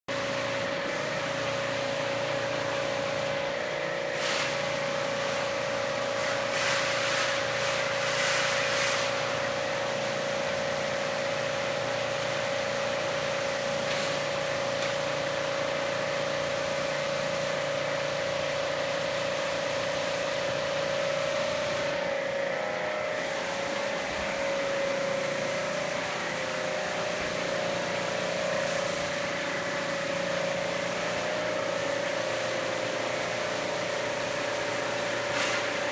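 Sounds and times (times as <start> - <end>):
pump motor humming: 0.1 - 35.9
hissing water spray: 4.1 - 22.0, 23.2 - 35.9.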